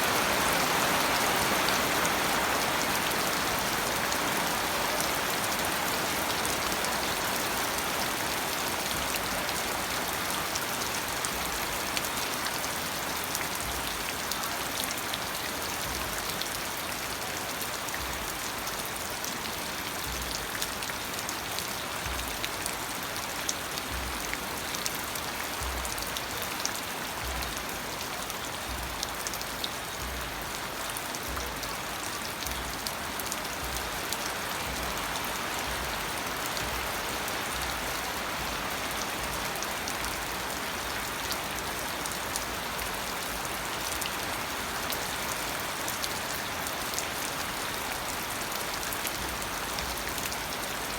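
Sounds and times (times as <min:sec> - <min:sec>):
rain falling: 0:00.0 - 0:50.9
raindrops ticking on a surface: 0:00.0 - 0:50.9.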